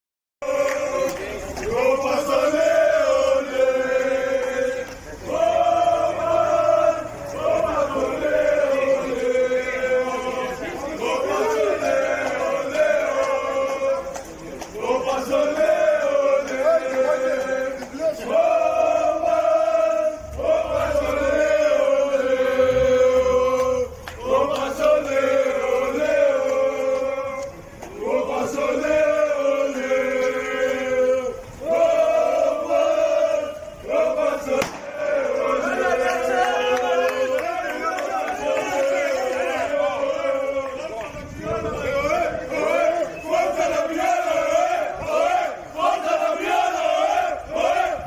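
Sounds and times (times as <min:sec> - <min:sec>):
men chanting in unison: 0:00.4 - 0:48.0.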